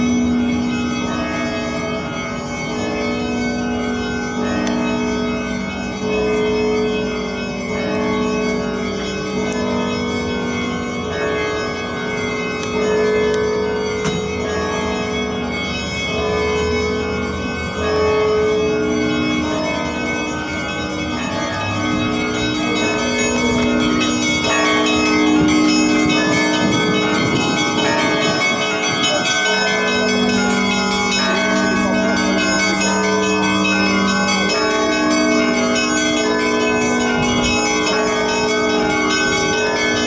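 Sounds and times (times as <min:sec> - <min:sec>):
church bells pealing: 0:00.0 - 0:40.0.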